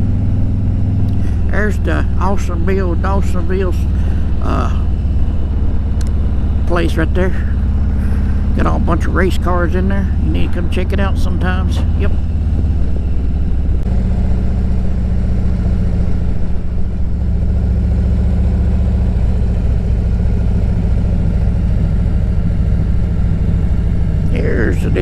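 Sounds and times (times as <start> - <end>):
road and wind noise: 0.0 - 25.0
vehicle engine running: 0.0 - 25.0.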